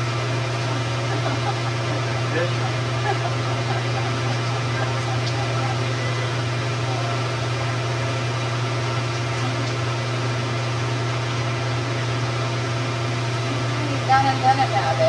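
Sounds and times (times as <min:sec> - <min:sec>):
bubbling churning water: 0:00.0 - 0:15.0
hot tub pump hum: 0:00.0 - 0:15.0.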